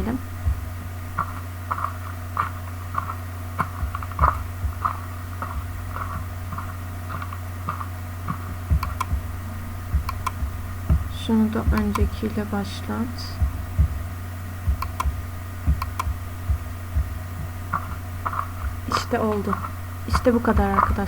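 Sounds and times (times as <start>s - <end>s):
footsteps: 0.0s - 12.6s, 13.2s - 21.0s
low steady hum: 0.0s - 21.0s.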